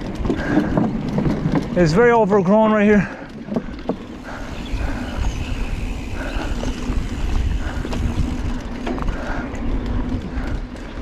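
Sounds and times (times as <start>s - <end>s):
tyres rumbling on dirt trail: 0.0s - 11.0s.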